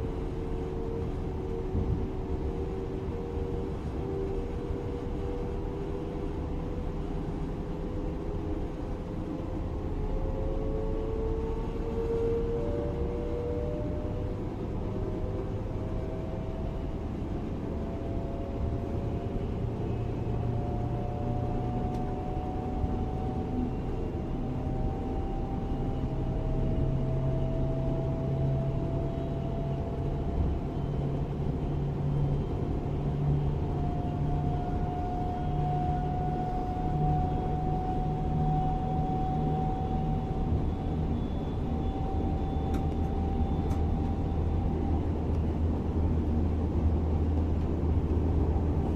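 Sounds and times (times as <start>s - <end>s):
train running noise: 0.0s - 48.9s.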